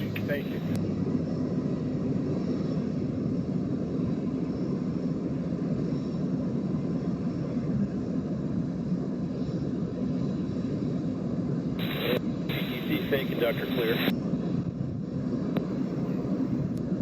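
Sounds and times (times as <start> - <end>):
diesel locomotive engine droning: 0.0 - 17.0.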